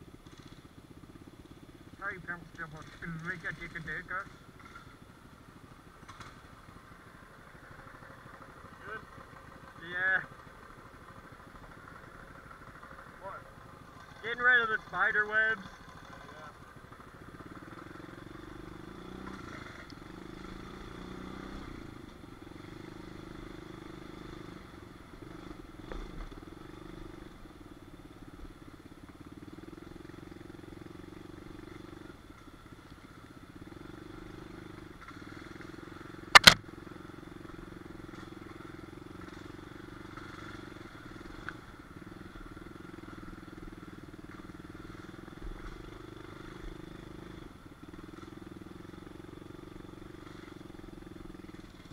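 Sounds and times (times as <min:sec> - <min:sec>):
pit bike engine running: 0:00.0 - 0:51.9.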